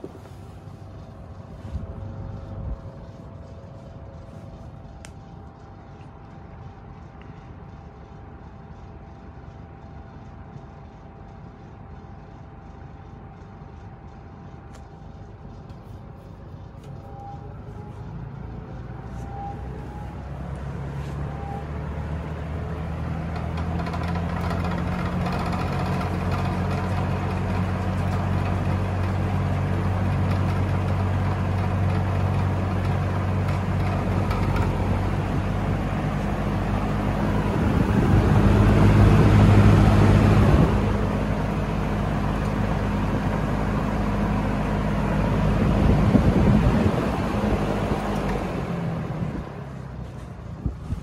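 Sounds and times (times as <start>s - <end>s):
box fan humming: 0.0s - 51.0s.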